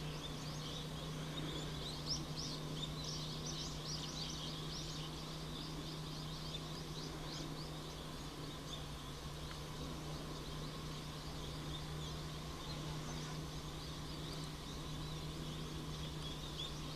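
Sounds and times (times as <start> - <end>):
small birds twittering: 0.0 - 16.9
steady low hum: 0.0 - 16.9.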